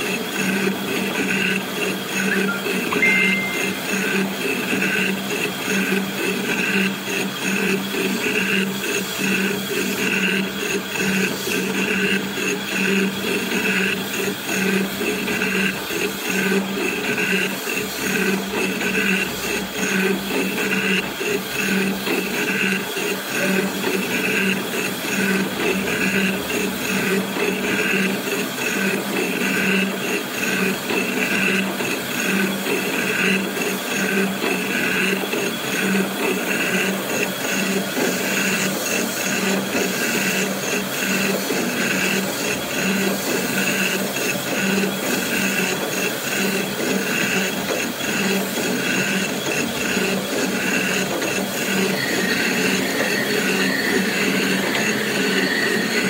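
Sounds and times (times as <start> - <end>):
boring machine whirring: 0.0 - 56.0
high machine whine: 0.0 - 56.0.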